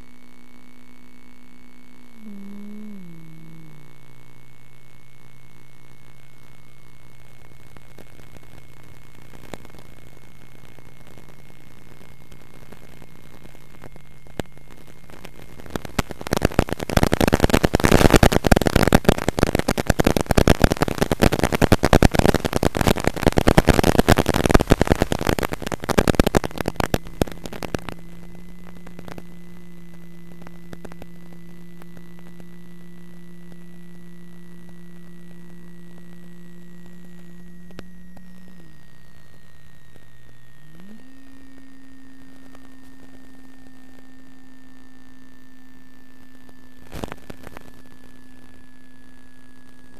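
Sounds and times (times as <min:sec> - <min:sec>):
crackling radio static: 0:00.0 - 0:49.9
steady low hum: 0:00.0 - 0:49.9.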